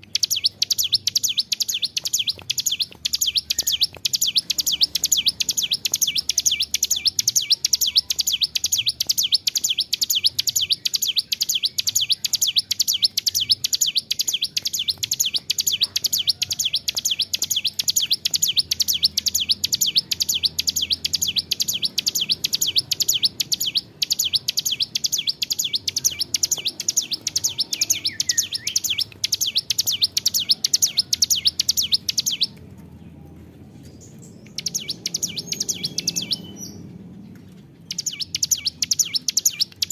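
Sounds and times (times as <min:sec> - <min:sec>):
bird singing rapid high chirps: 0:00.0 - 0:32.6, 0:33.9 - 0:39.9.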